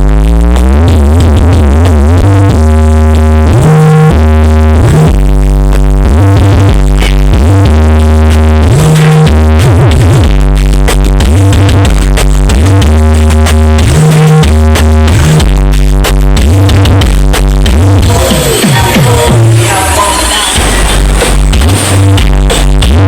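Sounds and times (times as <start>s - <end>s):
heavy sweeping bass notes: 0.0s - 23.0s
loud electronic dance music: 0.0s - 23.0s.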